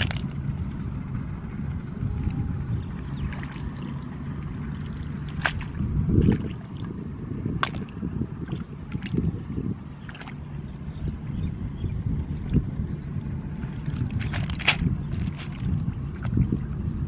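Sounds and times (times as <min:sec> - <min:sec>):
low steady rumble: 0:00.0 - 0:17.0
shallow water sloshing and splashing: 0:00.0 - 0:17.0.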